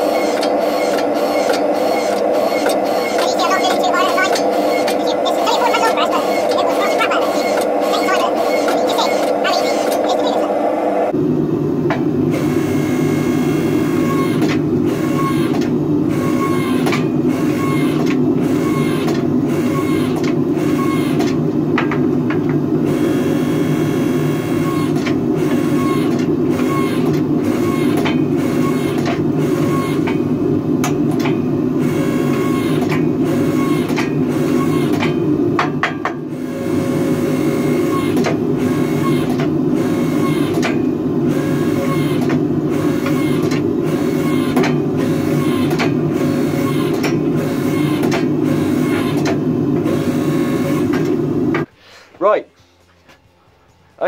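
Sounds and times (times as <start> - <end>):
electric motor and hydraulic pump hum: 0.0 - 51.8.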